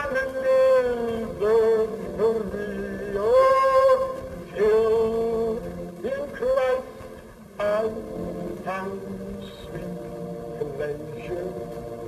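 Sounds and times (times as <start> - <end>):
man singing slow melody: 0.0 - 12.0.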